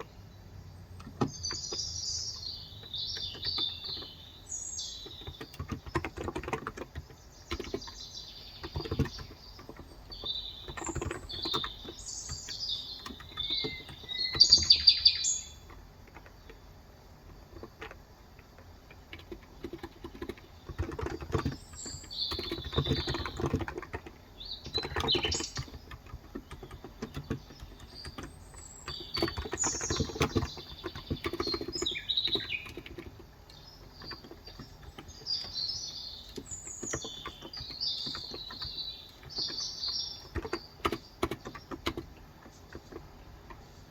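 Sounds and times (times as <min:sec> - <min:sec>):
birds chirping: 0:00.0 - 0:43.9
typing on a keyboard: 0:01.0 - 0:43.9.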